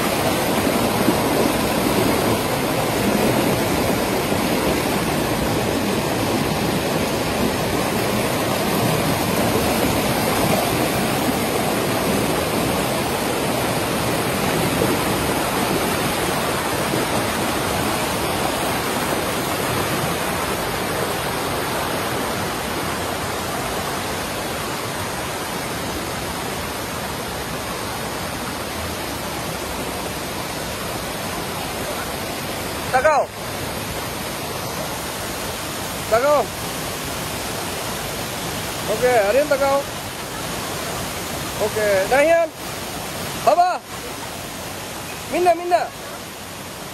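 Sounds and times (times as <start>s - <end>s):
river rushing over rapids: 0.0s - 46.9s.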